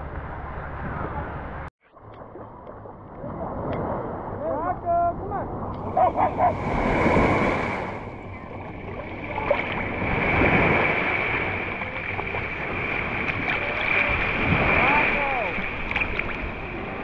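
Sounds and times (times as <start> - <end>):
surf washing and sloshing: 0.7 - 17.0.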